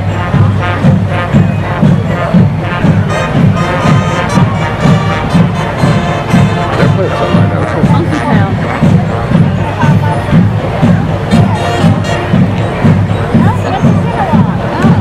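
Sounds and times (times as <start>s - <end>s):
marching band brass: 0.0s - 15.0s
steady drum beat: 0.0s - 15.0s.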